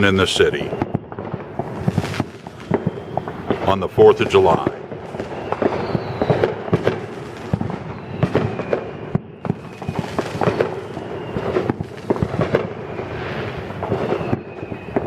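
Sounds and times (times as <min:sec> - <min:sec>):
fireworks bangs and pops: 0:00.0 - 0:15.0
fireworks crackling: 0:00.0 - 0:15.0.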